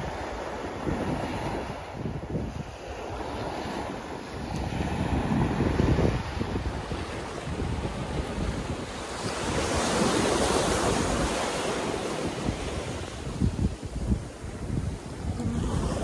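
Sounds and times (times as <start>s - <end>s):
sea waves breaking: 0.0s - 16.0s
wind buffeting microphone: 0.0s - 16.0s.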